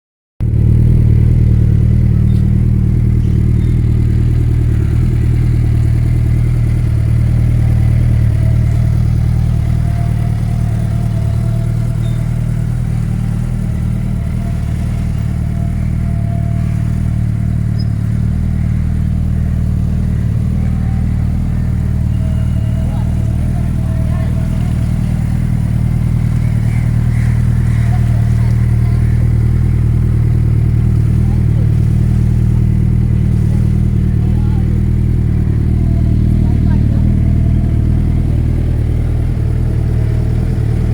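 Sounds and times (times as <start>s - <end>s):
motorcycle engine idling: 0.4s - 40.9s.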